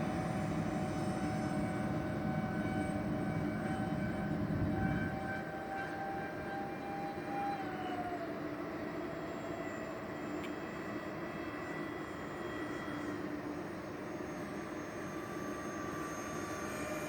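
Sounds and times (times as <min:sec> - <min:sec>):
electric ducted fans whining: 0:00.0 - 0:17.0.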